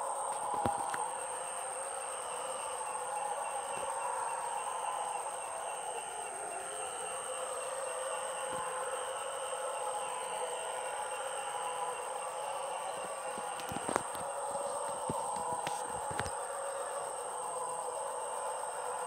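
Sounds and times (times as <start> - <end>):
insect chorus buzzing and trilling: 0.0 - 19.0.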